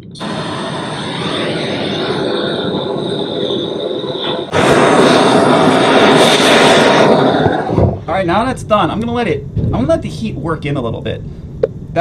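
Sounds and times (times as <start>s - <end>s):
torch flame hissing: 0.0s - 11.6s.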